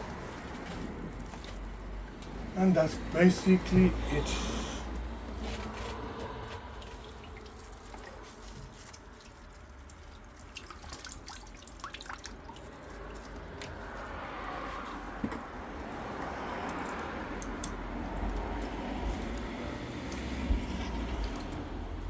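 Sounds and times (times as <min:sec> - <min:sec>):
water dripping and trickling: 0:00.0 - 0:04.1, 0:04.9 - 0:22.0.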